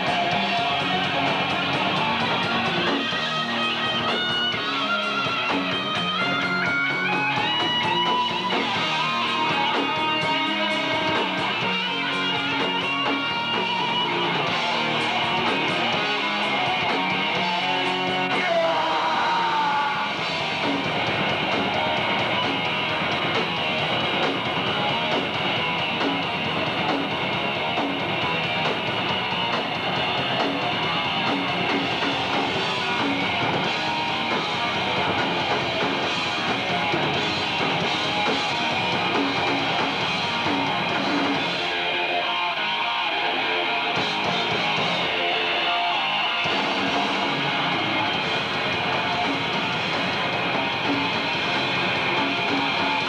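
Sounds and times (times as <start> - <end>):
distorted electric guitars: 0.0 - 53.0
drum kit: 0.0 - 53.0.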